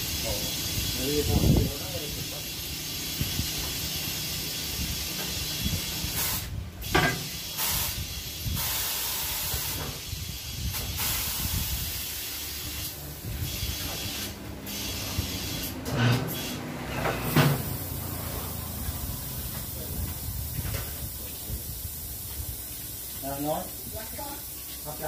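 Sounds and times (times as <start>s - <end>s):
compressed air hissing: 0.0s - 25.0s.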